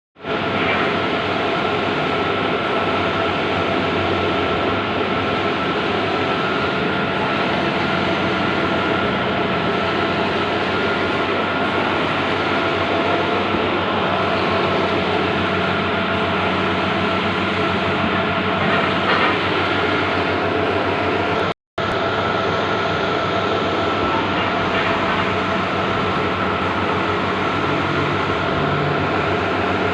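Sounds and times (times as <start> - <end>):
printer mechanical whine: 0.2 - 29.9.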